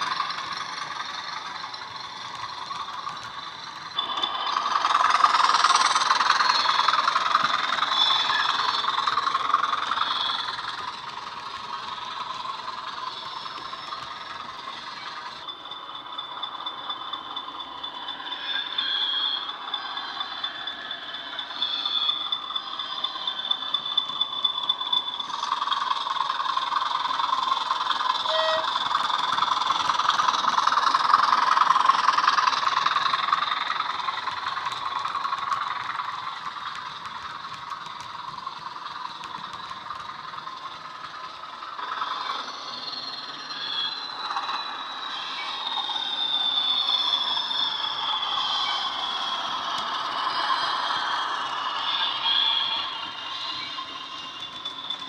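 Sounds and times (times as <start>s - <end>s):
diesel engine sound from small speaker: 0.0s - 55.0s
high whistling tone: 0.0s - 55.0s
model wheels running on track: 0.0s - 55.0s.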